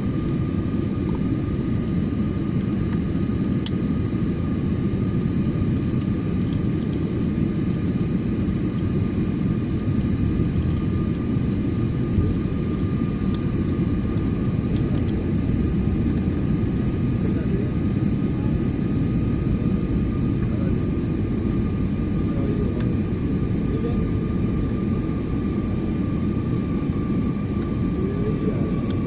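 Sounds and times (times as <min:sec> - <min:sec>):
airliner cabin engine rush: 0:00.0 - 0:29.0.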